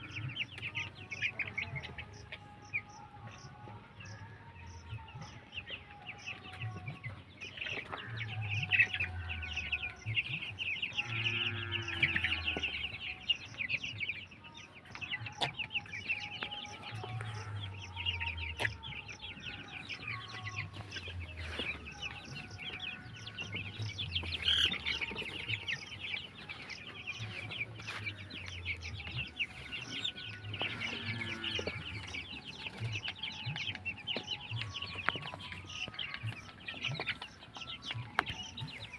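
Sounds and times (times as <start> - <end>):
chickens clucking and chirping: 0.0 - 38.9.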